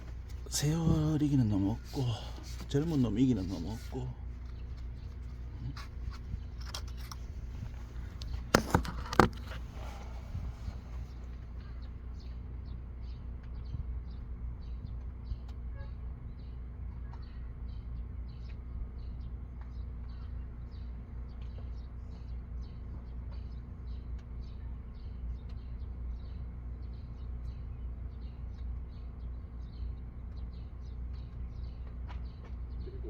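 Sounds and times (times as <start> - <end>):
low mechanical hum: 0.0 - 33.0
small birds chirping: 0.0 - 33.0.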